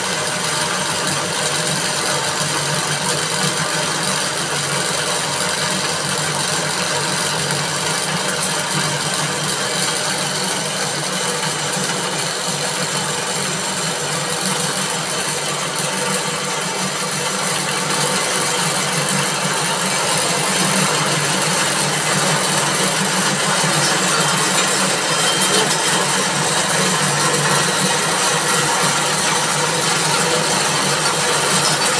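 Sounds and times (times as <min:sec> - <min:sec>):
spinning machine running: 0:00.0 - 0:31.9.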